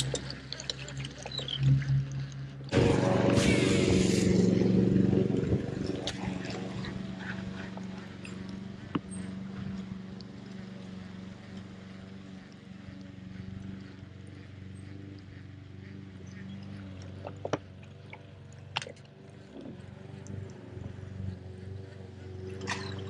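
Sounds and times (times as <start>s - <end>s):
boat motor humming: 0.0s - 23.0s.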